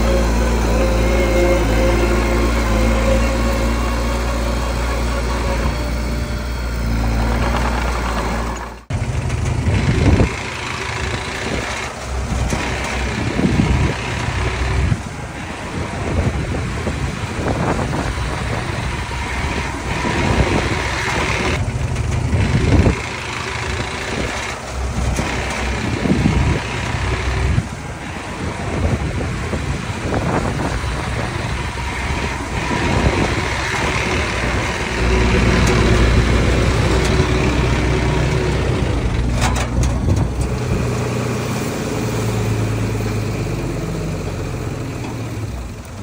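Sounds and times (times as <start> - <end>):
bulldozer diesel engine under load: 0.0 - 46.0.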